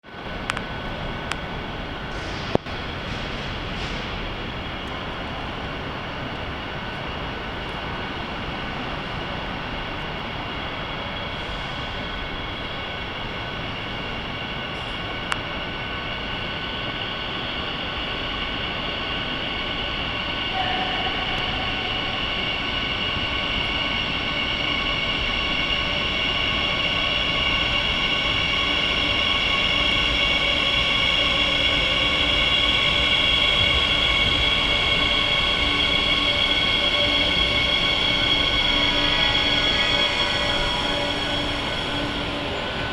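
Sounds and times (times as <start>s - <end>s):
metro train rumble: 0.0s - 42.9s
train high whine: 0.0s - 42.9s.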